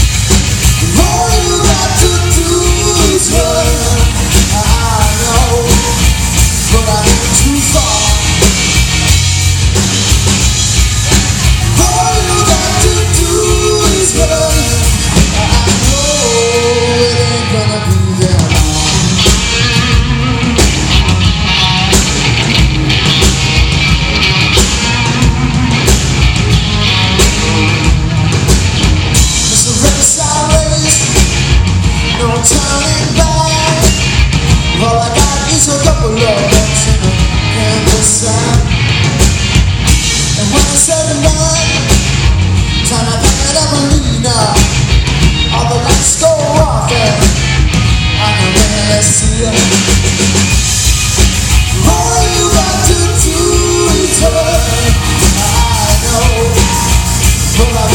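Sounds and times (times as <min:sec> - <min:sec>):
rock band playing live: 0:00.0 - 0:57.9
steady drum beat: 0:00.0 - 0:57.9.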